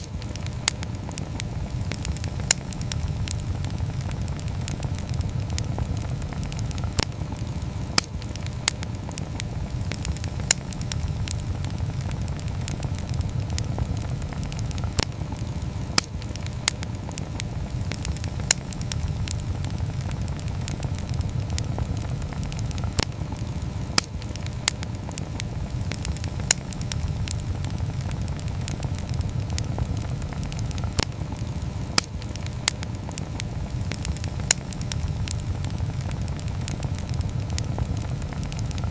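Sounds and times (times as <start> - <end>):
campfire flame rumble: 0.0 - 38.9
fire crackling and popping: 0.0 - 38.9.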